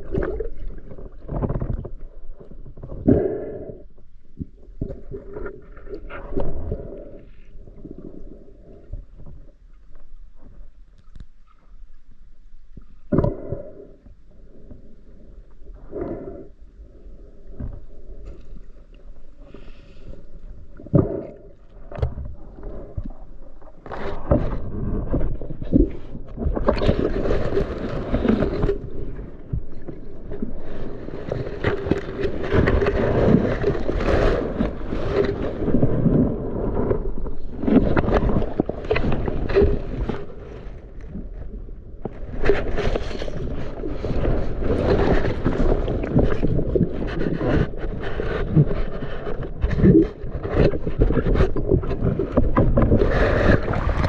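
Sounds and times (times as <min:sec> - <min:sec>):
muffled water sloshing and bubbling: 0:00.0 - 0:54.0.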